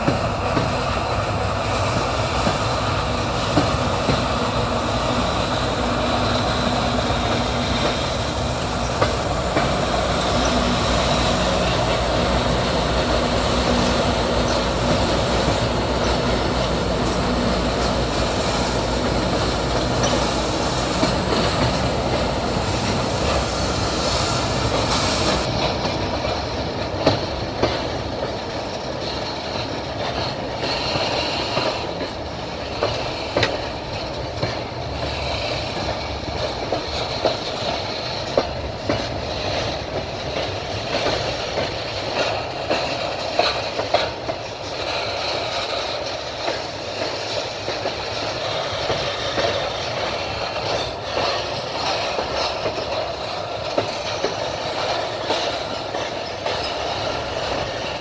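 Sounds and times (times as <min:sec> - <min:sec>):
train wheels rumbling on rails: 0:00.0 - 0:58.0
wheels clicking over rail joints: 0:00.0 - 0:58.0.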